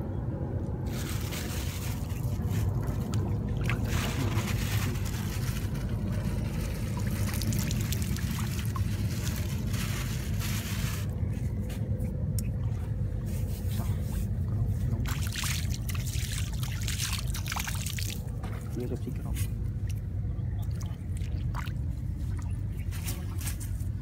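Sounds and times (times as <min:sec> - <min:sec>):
steady low rumble: 0:00.0 - 0:24.0
water splashing and dribbling: 0:00.9 - 0:11.1, 0:12.4 - 0:23.9.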